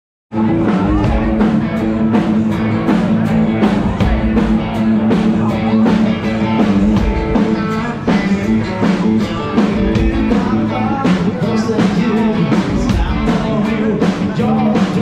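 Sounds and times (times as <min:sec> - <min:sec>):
drum kit beat: 0:00.3 - 0:15.0
live rock band playing: 0:00.3 - 0:15.0.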